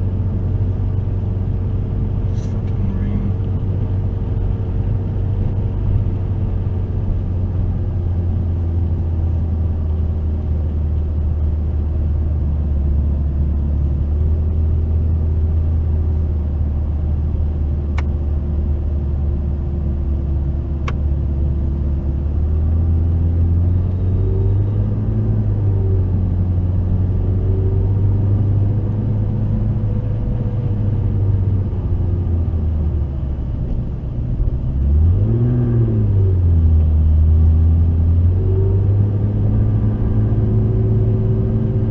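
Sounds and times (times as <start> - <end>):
sports car engine on track: 0.0 - 41.9.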